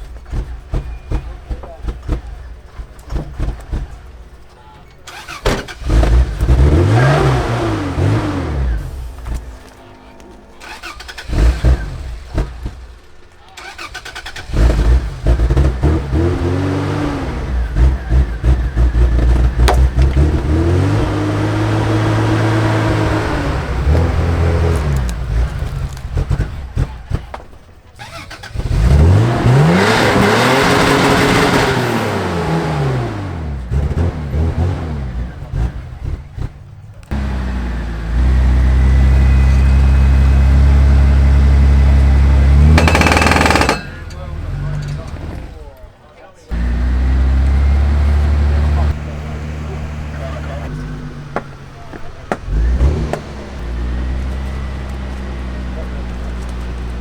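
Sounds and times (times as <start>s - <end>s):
off-road engines revving: 0.0s - 57.0s.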